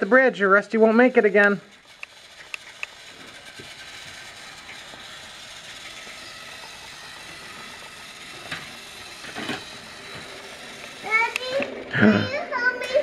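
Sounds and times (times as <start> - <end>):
toy train electric motor running: 0.0 - 13.0.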